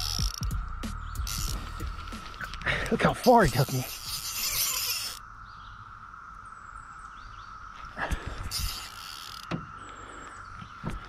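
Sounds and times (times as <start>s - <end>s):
cicada chorus drone: 0.0s - 11.0s.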